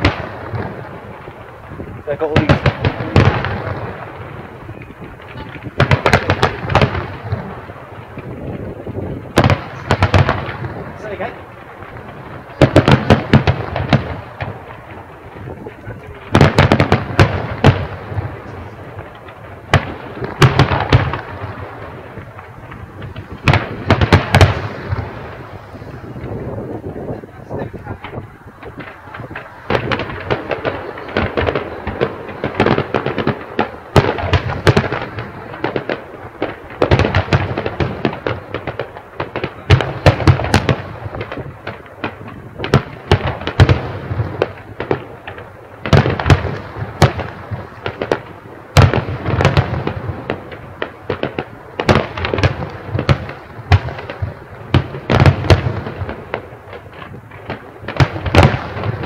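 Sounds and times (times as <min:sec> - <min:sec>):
fireworks bangs and crackling: 0:00.0 - 0:59.0
fireworks booms: 0:00.0 - 0:59.0.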